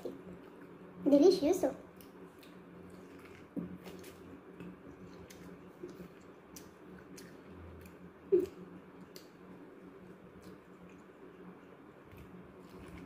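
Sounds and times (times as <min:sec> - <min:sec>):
chewing corn on the cob: 0:01.9 - 0:13.0.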